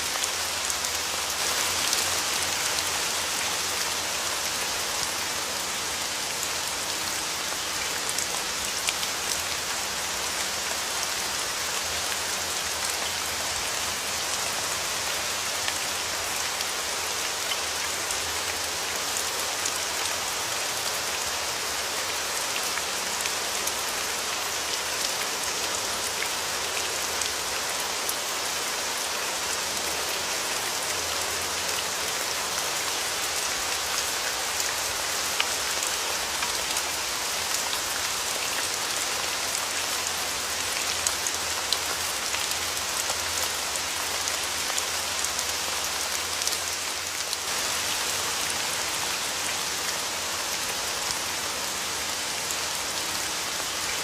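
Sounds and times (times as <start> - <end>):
rain pattering on a surface: 0.0 - 54.0.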